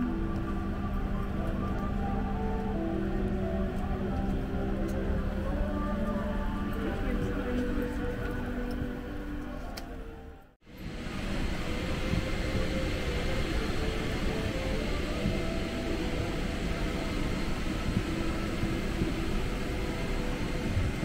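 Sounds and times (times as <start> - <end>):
jet cabin engine and air noise: 0.0 - 21.0.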